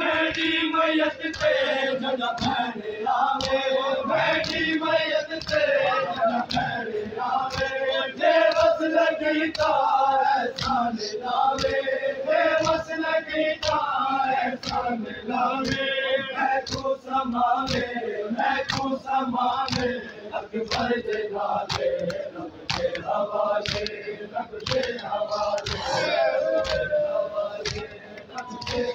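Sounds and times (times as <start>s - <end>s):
men chanting a lament: 0.0s - 28.9s
rhythmic chest-beating slaps: 0.0s - 28.9s.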